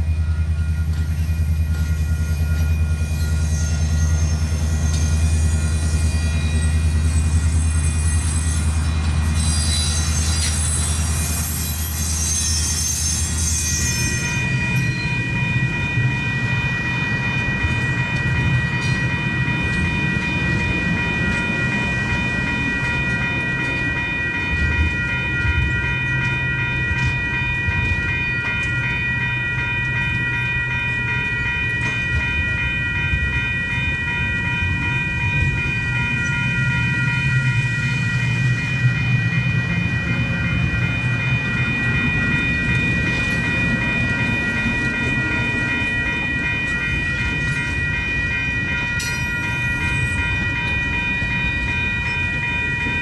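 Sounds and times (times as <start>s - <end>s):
crossing bell ringing: 0.0s - 53.0s
train wheels rumbling on rails: 0.0s - 53.0s.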